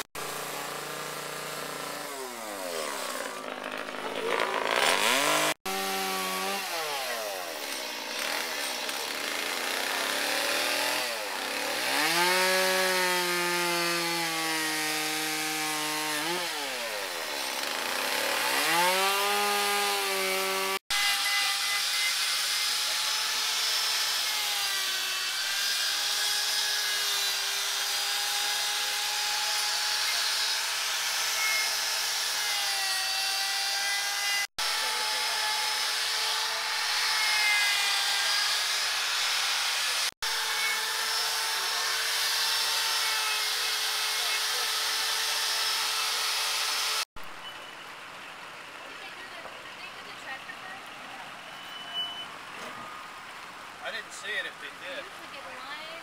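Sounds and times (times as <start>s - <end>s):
chainsaw cutting wood: 0.0s - 47.1s.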